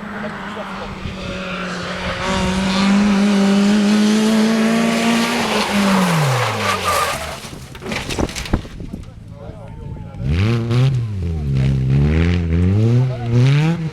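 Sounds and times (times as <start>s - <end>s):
rally car engine at full throttle: 0.0s - 13.9s.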